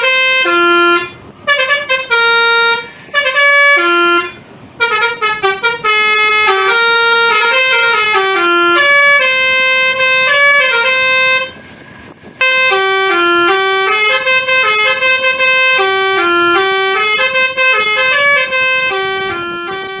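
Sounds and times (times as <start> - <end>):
musical bus horn melody: 0.0 - 20.0.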